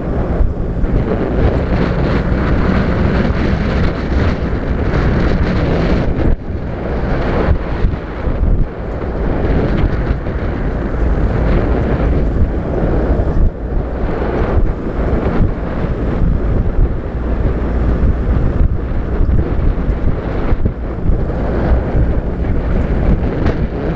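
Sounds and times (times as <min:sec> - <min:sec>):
low engine and tyre rumble: 0:00.0 - 0:23.9
wind buffeting microphone: 0:00.0 - 0:23.9.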